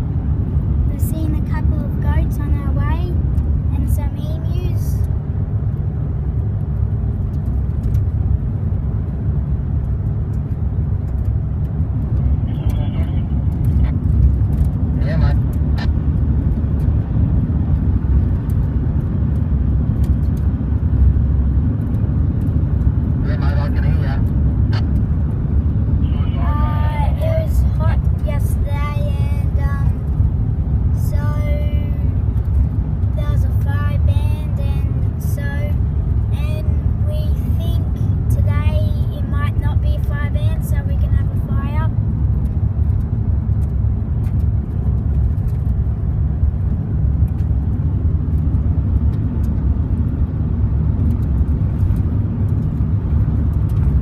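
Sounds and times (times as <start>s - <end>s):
car tyres rumbling on dirt road: 0.0s - 54.0s.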